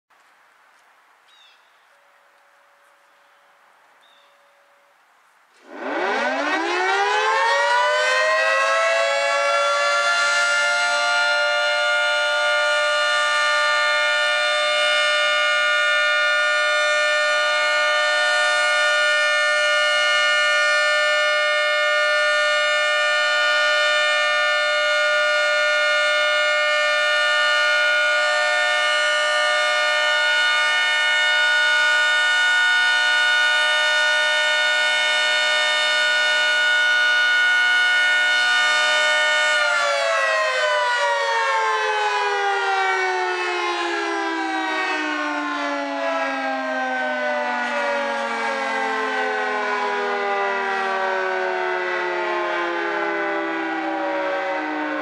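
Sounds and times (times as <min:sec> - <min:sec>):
three-tone storm siren: 0:05.6 - 0:55.0.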